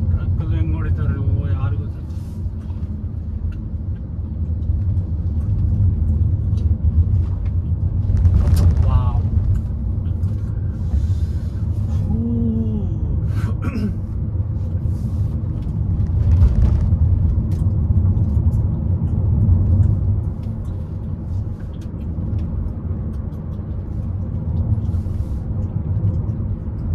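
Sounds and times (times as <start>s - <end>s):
car engine and tyre rumble: 0.0s - 26.9s.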